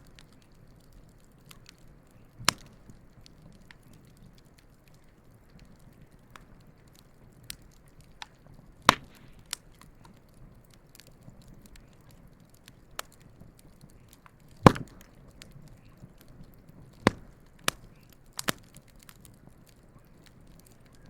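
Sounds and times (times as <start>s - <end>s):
campfire crackling and popping: 0.0s - 21.0s
fire hissing: 0.0s - 21.0s.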